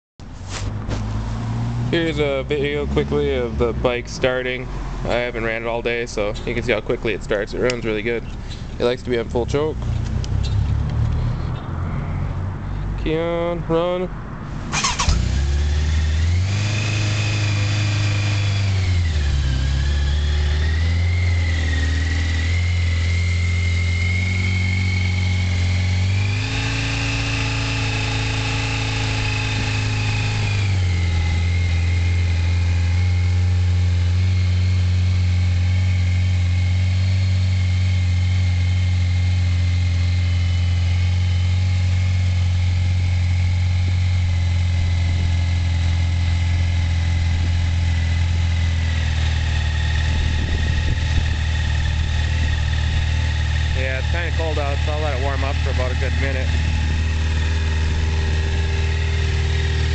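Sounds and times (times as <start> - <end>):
motorcycle engine idling: 1.9 - 11.6, 14.7 - 59.9.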